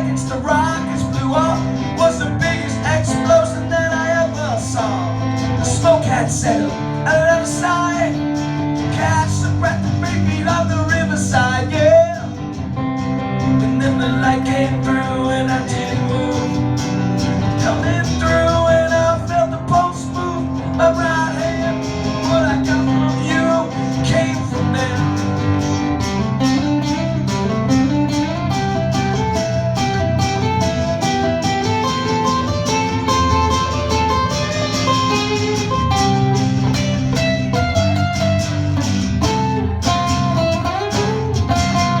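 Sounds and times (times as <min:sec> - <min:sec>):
picked acoustic guitar melody: 0:00.0 - 0:42.0
quick strummed guitar rhythm: 0:00.0 - 0:42.0.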